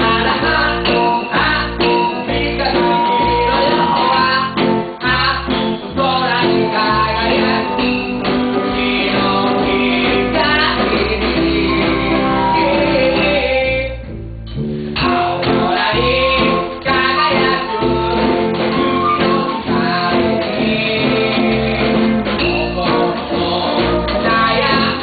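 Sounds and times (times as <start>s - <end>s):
band playing with singing: 0.0s - 14.1s, 14.8s - 25.0s.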